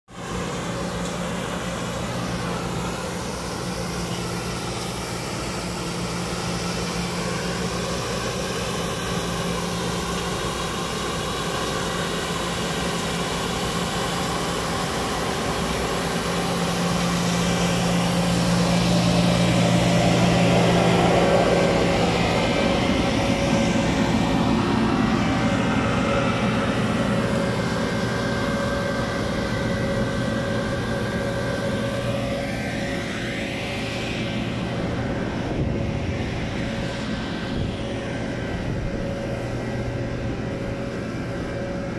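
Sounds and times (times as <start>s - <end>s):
street sweeper engine droning: 0.1s - 41.9s.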